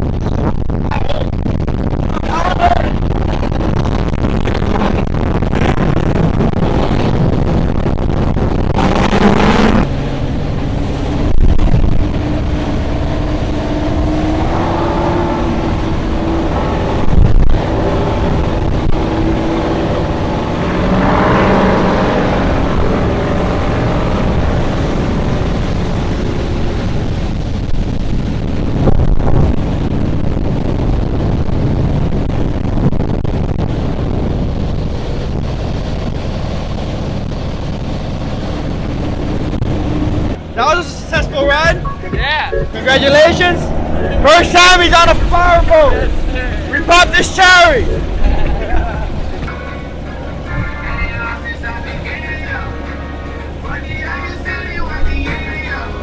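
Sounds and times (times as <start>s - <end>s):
powerboat engines running: 0.0s - 56.0s
wind noise on microphone: 0.0s - 56.0s.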